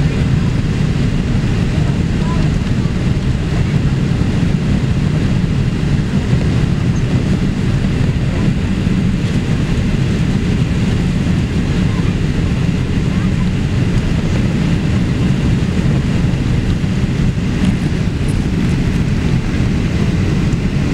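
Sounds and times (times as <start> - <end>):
airplane cabin drone: 0.0 - 20.9.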